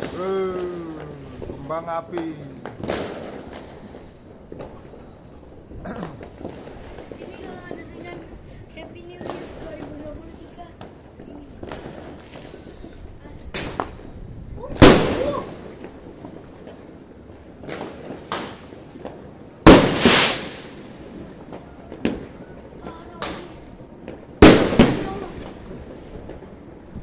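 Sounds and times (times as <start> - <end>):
faint fireworks pops: 0.0 - 27.0
fireworks bangs: 0.0 - 27.0
fireworks crackling: 0.0 - 27.0.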